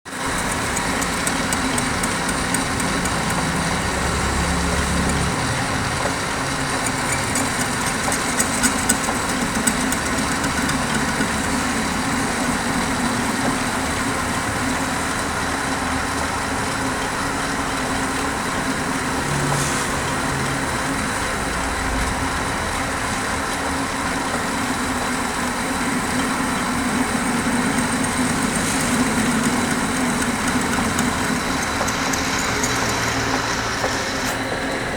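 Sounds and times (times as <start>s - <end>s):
machinery droning: 0.1s - 34.9s.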